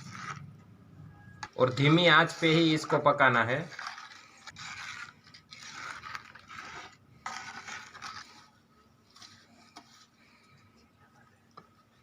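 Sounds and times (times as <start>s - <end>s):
stirring scrapes in metal pot: 0.0s - 0.5s, 1.4s - 10.7s.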